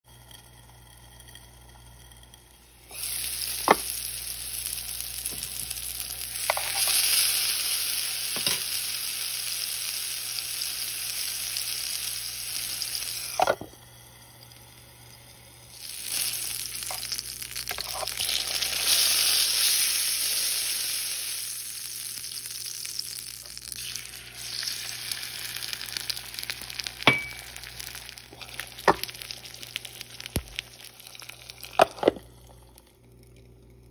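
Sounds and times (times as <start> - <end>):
food sizzling in oil: 2.6 - 33.1.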